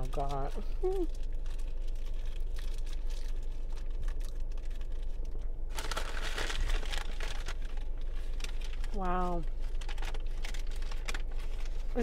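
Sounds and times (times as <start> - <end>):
low steady hum: 0.0 - 12.0
plastic wrapper crinkling: 0.0 - 12.0.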